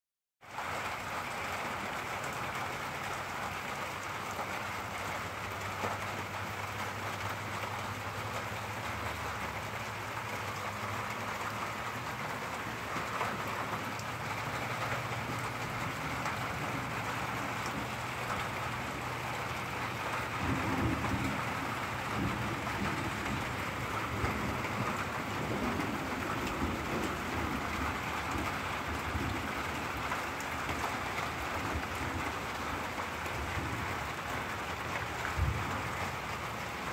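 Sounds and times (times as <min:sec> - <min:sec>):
steady rain falling: 0:00.4 - 0:36.9
low rumble of thunder: 0:05.4 - 0:36.9.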